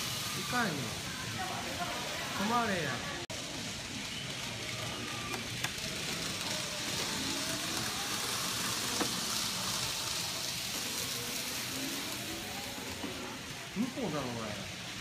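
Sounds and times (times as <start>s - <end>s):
faint voices: 0.0s - 15.0s
model train whirring: 0.0s - 15.0s.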